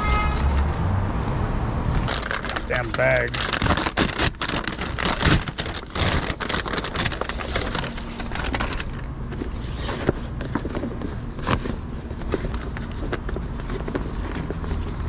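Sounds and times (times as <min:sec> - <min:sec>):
paper bag rustling: 0:02.0 - 0:15.0.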